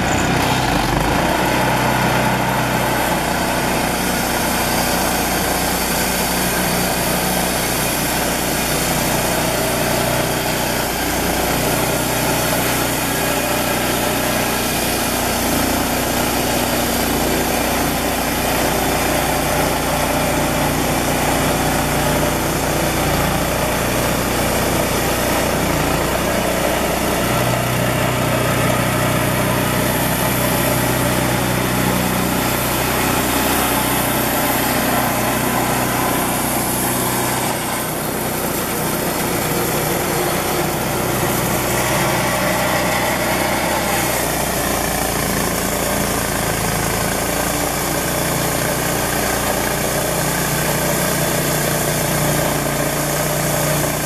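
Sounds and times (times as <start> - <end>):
band saw blade cutting log: 0.0 - 54.0
sawmill engine running: 0.0 - 54.0.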